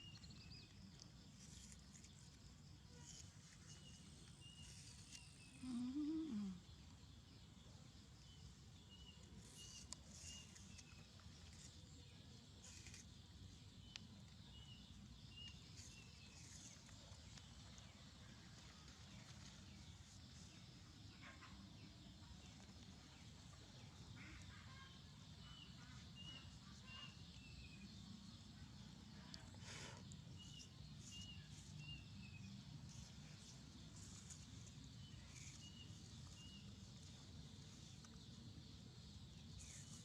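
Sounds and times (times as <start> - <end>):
small bird chirping: 0.0 - 40.0.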